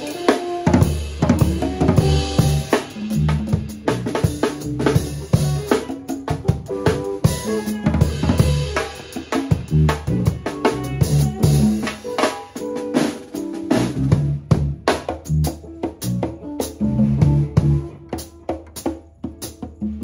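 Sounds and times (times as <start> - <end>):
drum kit groove: 0.0 - 20.0
funk band playing: 0.0 - 20.0.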